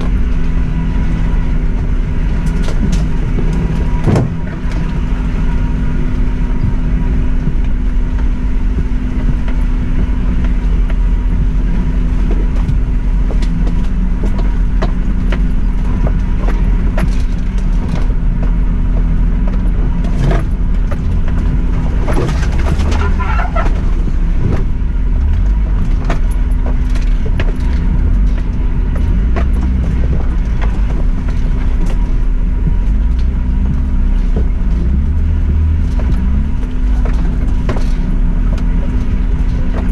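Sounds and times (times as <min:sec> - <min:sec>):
car engine running at low revs: 0:00.0 - 0:39.9
knocks and rattles over bumps: 0:00.0 - 0:39.9.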